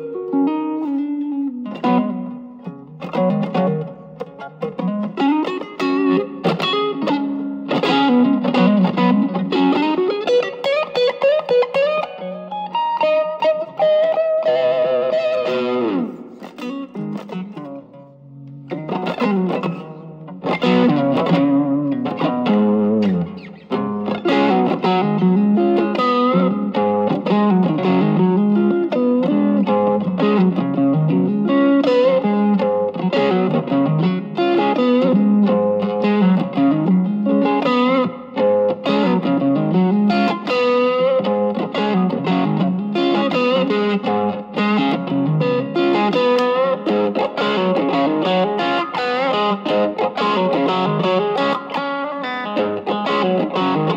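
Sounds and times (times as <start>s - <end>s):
overdriven electric guitar playing: 0.0s - 53.9s.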